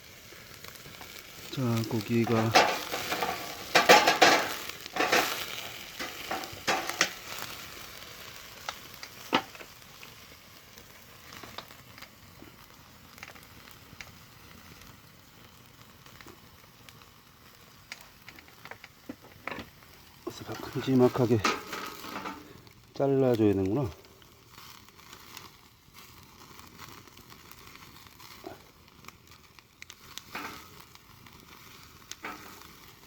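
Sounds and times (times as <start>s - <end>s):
meat sizzling: 0.0s - 33.0s.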